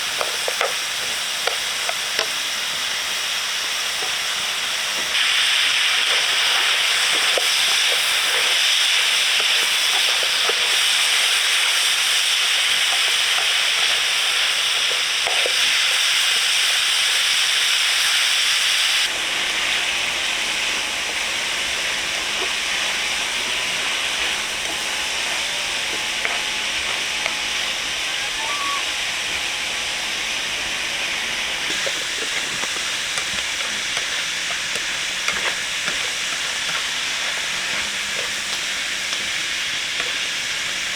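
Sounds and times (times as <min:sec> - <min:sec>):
food cooking hiss: 0:00.0 - 0:40.9.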